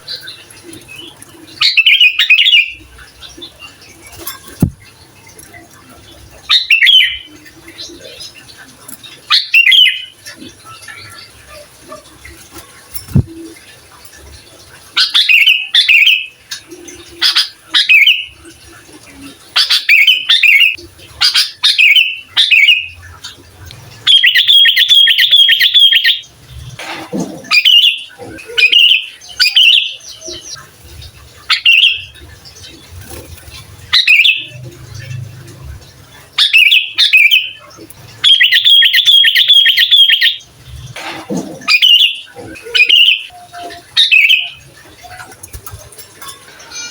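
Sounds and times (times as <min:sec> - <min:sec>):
bulbul singing: 0:00.0 - 0:04.9, 0:05.8 - 0:11.4, 0:15.0 - 0:26.4, 0:27.2 - 0:35.5, 0:36.1 - 0:46.9.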